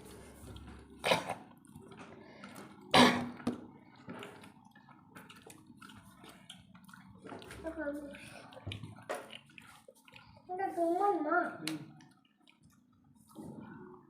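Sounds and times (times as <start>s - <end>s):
eating sounds: 0.0s - 14.0s.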